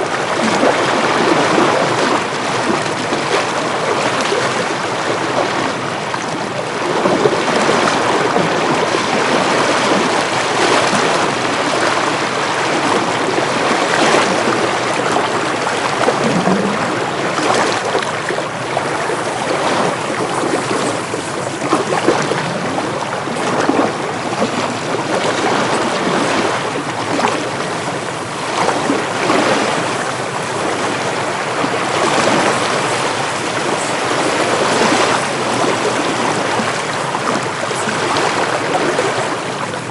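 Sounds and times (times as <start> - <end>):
ocean waves washing in: 0.0 - 39.9
wind: 0.0 - 39.9.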